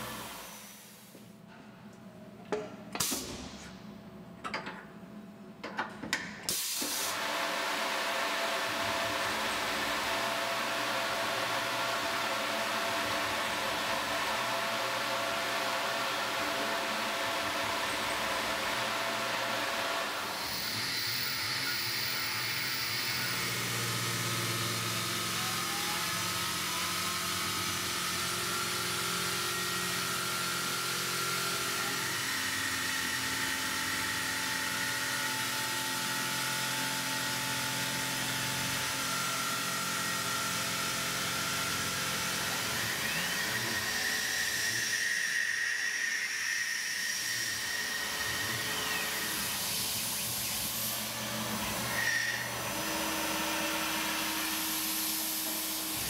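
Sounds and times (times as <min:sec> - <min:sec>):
mill spindle whine drilling metal: 0:07.1 - 0:56.0.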